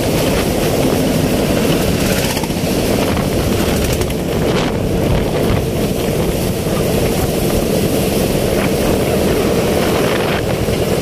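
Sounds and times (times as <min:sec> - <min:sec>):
vehicle rumble: 0:00.0 - 0:11.0
wind buffeting microphone: 0:00.0 - 0:11.0.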